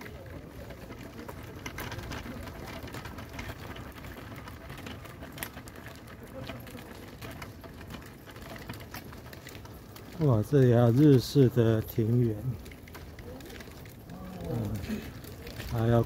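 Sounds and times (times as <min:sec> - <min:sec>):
wheelchair wheels rolling: 0:00.0 - 0:16.0.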